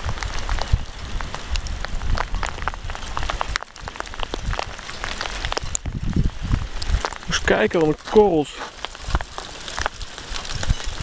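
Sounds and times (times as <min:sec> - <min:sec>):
hailstones striking: 0:00.0 - 0:11.0
heavy rain hissing: 0:00.0 - 0:11.0
wind rumbling on microphone: 0:00.0 - 0:11.0.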